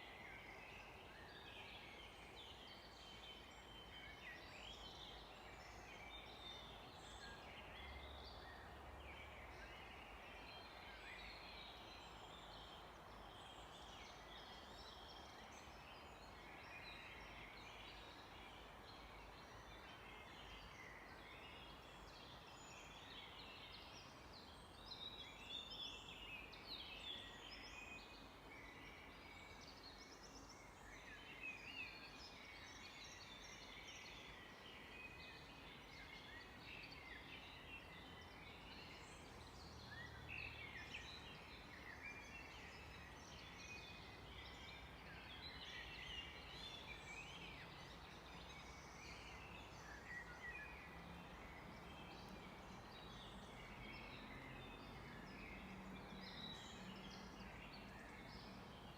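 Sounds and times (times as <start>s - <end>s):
songbirds chorus: 0.0s - 58.9s.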